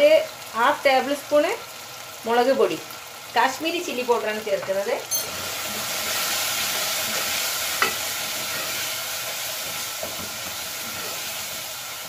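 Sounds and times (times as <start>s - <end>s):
masala sizzling: 0.0s - 12.0s.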